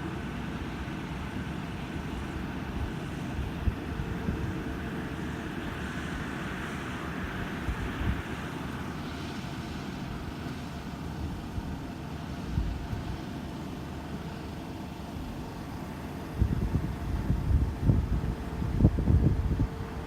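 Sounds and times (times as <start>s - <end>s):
combine harvester diesel engine: 0.0s - 20.0s.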